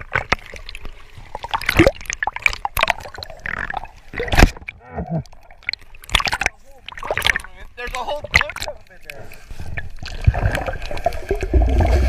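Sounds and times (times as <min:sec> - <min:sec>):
seawater splashing: 0:00.0 - 0:12.0
water gurgle: 0:00.0 - 0:12.0.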